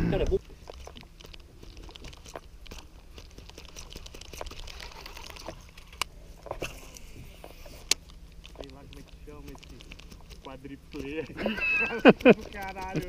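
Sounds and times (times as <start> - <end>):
fishing reel clicks and rustles: 0.4 - 13.0.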